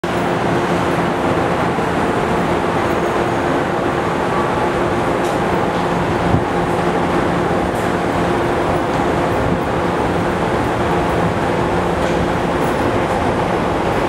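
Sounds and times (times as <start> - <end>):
constant hum: 0.0 - 14.0
train wheels rumbling on rail: 0.0 - 14.0.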